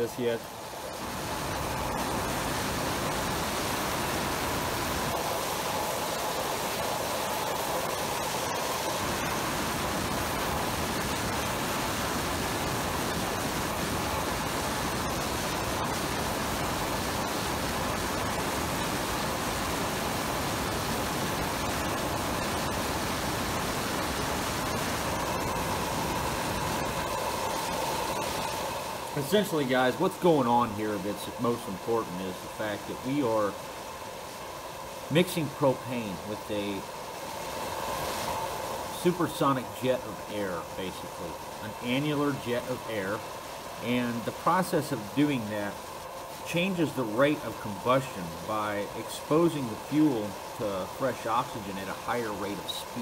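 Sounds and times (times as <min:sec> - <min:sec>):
gas forge burner roaring: 0:00.0 - 0:53.0.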